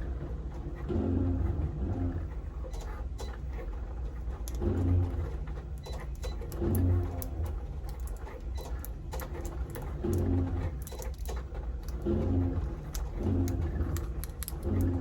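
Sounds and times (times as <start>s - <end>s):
heater humming: 0.0s - 15.0s.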